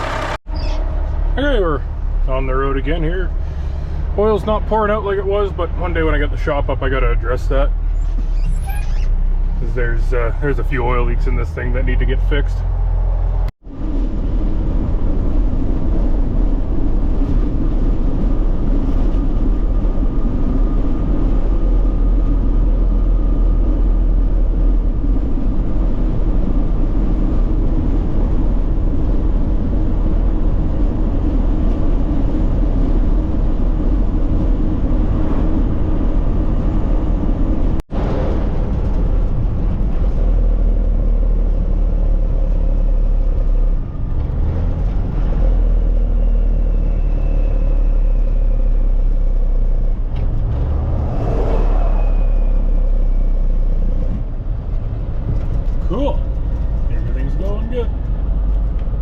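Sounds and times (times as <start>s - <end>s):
road noise inside cab: 0.0s - 59.0s
truck engine rumble: 0.0s - 59.0s.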